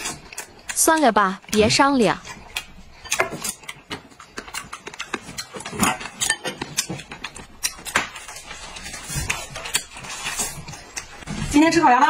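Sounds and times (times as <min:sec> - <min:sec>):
chewing corn on the cob: 0:00.0 - 0:11.6.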